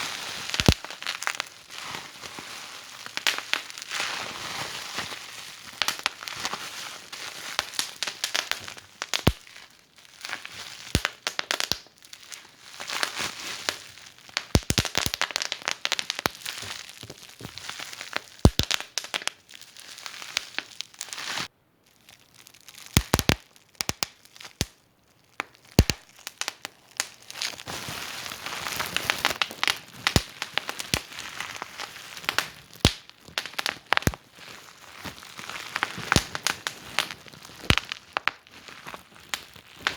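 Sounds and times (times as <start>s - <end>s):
fire snaps and pops: 0.4s - 1.5s, 3.0s - 3.9s, 5.6s - 6.4s, 7.5s - 21.5s, 22.6s - 39.9s.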